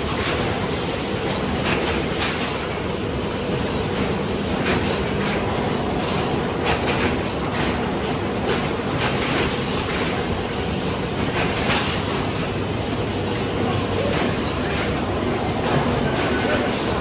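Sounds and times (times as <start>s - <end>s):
conveyor rattling and clacking: 0.0s - 17.0s
industrial machine hum: 0.0s - 17.0s.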